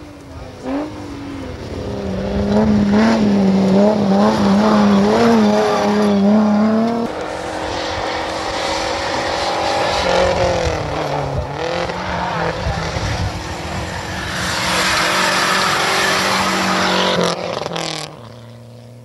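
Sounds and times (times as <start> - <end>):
distant rally car engine: 0.0 - 19.0
rally car engine revving: 0.0 - 19.0.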